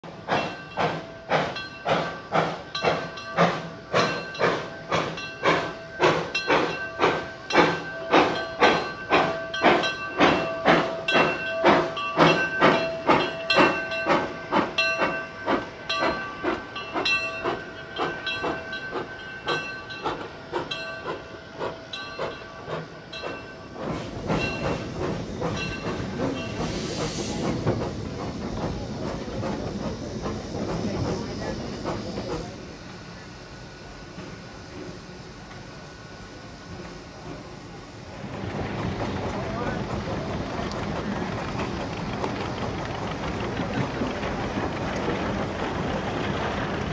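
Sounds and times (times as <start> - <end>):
railroad car rumbling: 0.0 - 46.9
steam hissing: 0.0 - 46.9
steam locomotive chuffing: 0.0 - 46.9.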